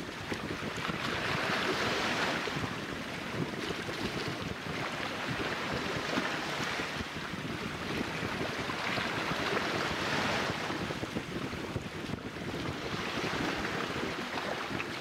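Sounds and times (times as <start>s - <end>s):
small waves washing on shore: 0.0s - 15.0s
wind buffeting microphone: 0.0s - 15.0s.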